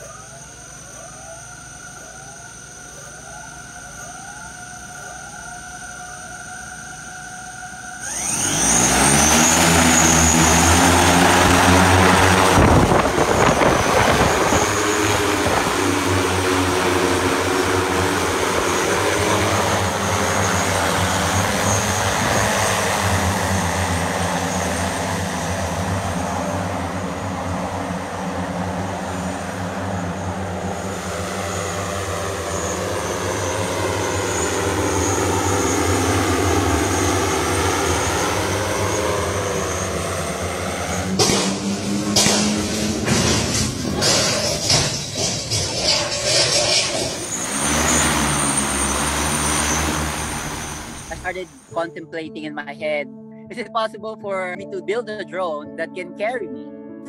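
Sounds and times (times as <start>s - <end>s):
propellers buzzing: 0.0s - 56.4s.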